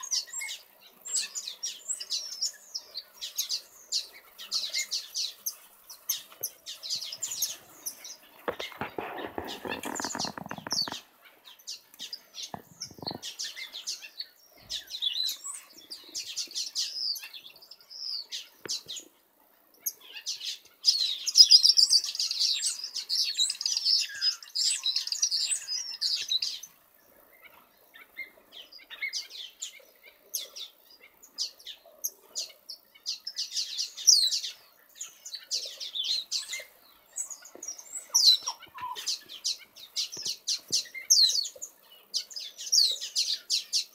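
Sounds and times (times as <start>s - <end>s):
finches chirping and calling: 0.0s - 19.1s, 19.8s - 43.9s.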